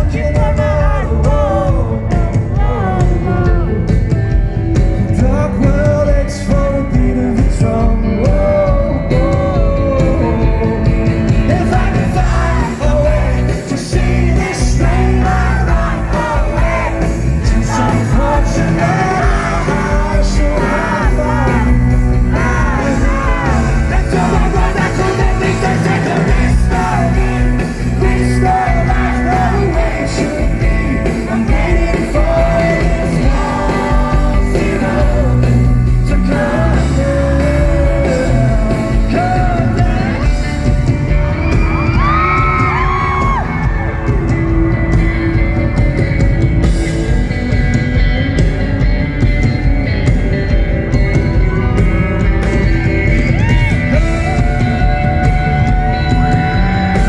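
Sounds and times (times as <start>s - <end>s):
lead singer singing: 0.0s - 48.6s, 50.1s - 57.0s
crowd voices: 0.0s - 57.0s
live rock band playing: 0.0s - 57.0s.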